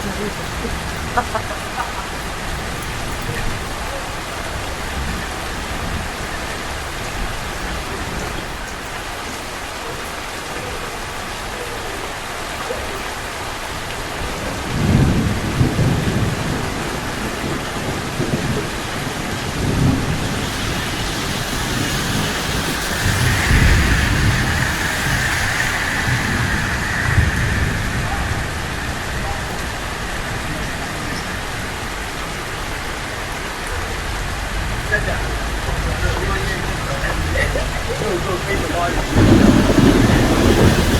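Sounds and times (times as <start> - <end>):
thunder rumbling: 0.0 - 8.6, 13.9 - 40.9
rain hissing on street: 0.0 - 40.9.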